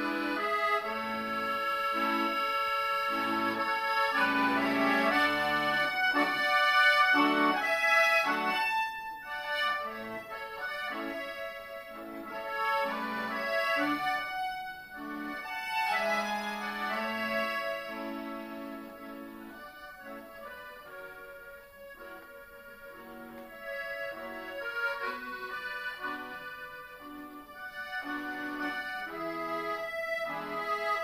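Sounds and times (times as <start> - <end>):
piano accordion playing: 0.0 - 31.0.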